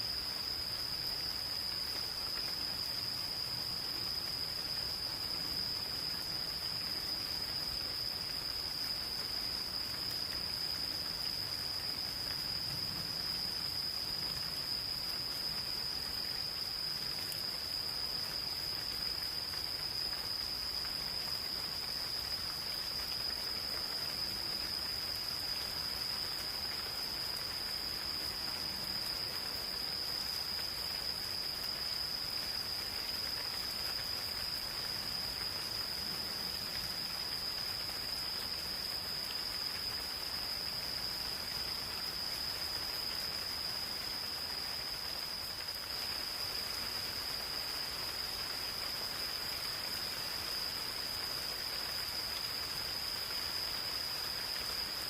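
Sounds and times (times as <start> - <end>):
gentle rain falling: 0.0 - 55.0
insects droning: 0.0 - 55.0.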